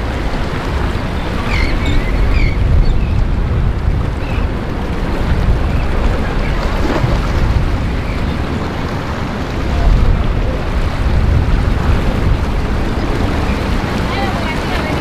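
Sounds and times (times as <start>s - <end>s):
choppy sea water rushing: 0.0s - 15.0s
wind buffeting microphone: 0.0s - 15.0s.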